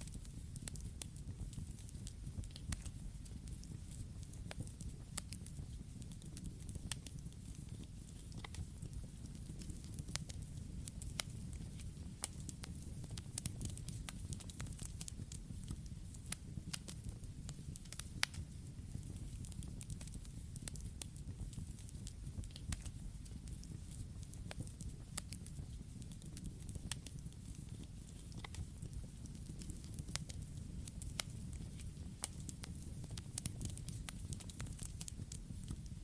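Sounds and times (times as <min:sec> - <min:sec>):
burning wood crackling and popping: 0:00.0 - 0:36.0.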